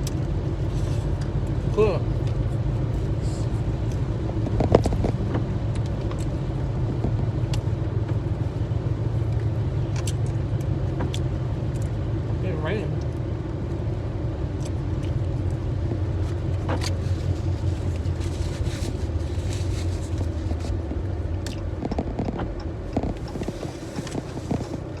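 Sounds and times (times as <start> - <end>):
car cabin engine rumble: 0.0 - 25.0.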